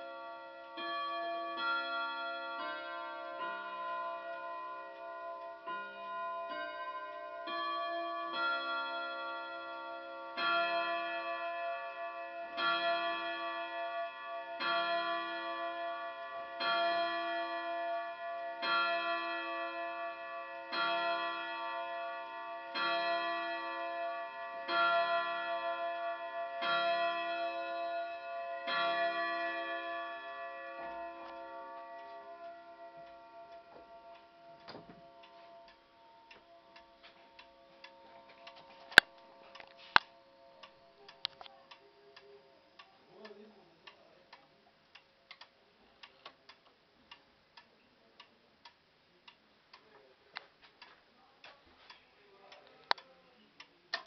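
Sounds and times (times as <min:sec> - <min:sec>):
clock ticking: 0:07.4 - 0:54.0.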